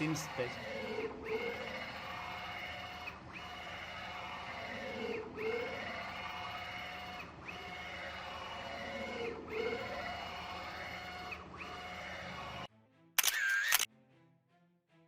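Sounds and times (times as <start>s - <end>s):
stepper motor whining: 0.0s - 13.9s.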